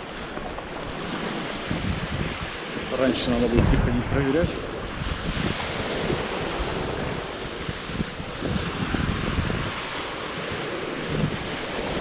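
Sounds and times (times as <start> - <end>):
surf washing through shallows: 0.0 - 12.0
wind rumbling on microphone: 0.0 - 12.0.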